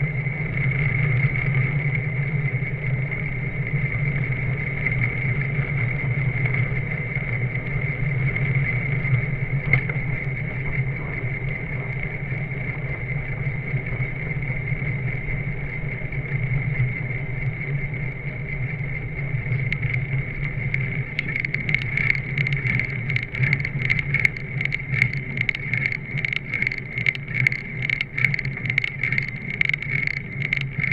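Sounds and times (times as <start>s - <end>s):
bicycle clicks and rattles: 0.0s - 30.9s
wind and road rumble: 0.0s - 30.9s.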